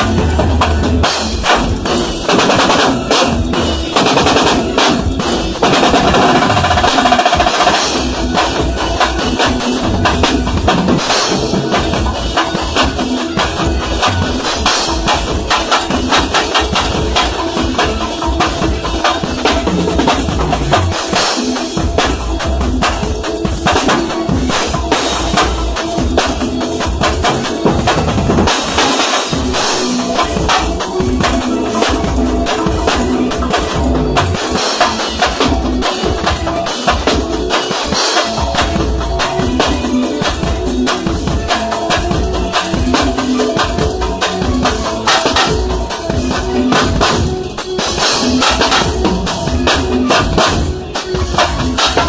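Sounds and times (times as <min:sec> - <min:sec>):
drum kit playing: 0:00.0 - 0:52.0.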